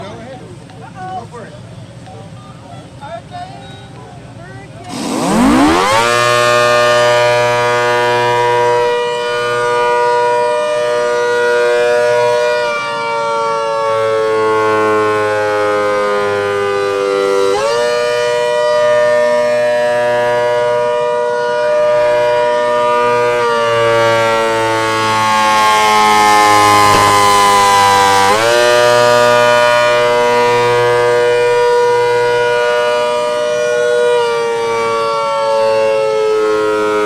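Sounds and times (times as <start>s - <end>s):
warning siren wailing: 4.9s - 37.0s.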